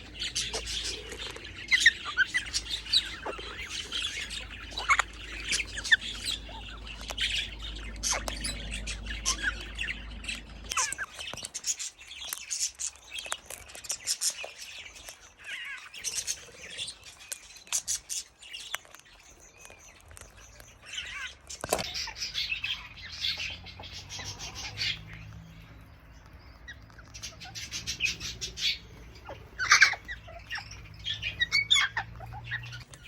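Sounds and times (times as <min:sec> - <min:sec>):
birds chirping and tweeting: 0:00.0 - 0:33.0
birds squawking: 0:00.0 - 0:33.0.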